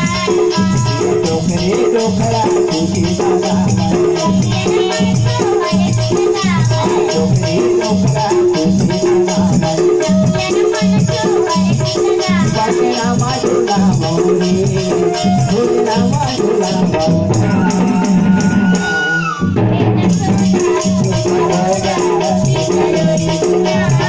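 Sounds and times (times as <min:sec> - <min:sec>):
man singing: 0:00.0 - 0:19.4, 0:20.0 - 0:24.0
hand drums: 0:00.0 - 0:24.0
harmonium chords: 0:00.0 - 0:24.0
jingling percussion: 0:00.0 - 0:24.0.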